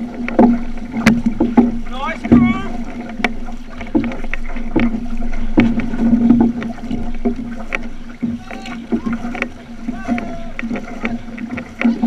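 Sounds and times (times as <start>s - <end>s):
canoe paddles pulling through water: 0.0s - 12.0s
water washing along hull: 0.0s - 12.0s.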